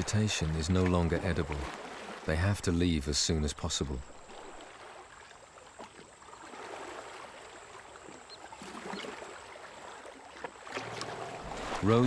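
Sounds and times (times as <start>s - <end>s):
flowing water rushing: 0.0s - 12.0s
water splashing: 0.0s - 12.0s.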